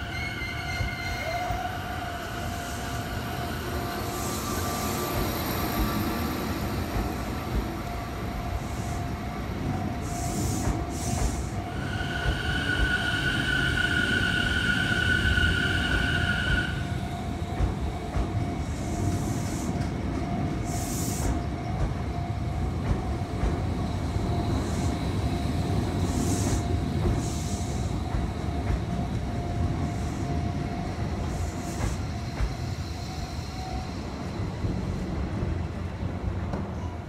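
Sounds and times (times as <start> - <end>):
train hum: 0.0 - 37.0
train wheels rumbling on rail: 0.0 - 37.0.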